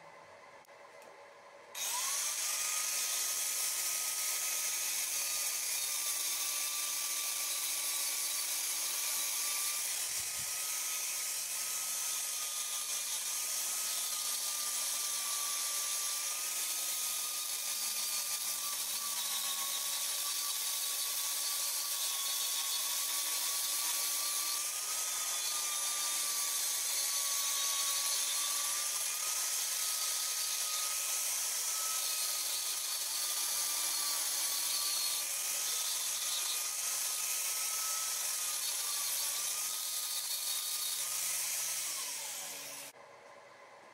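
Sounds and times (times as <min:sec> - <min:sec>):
angle grinder grinding steel: 0:01.8 - 0:43.0.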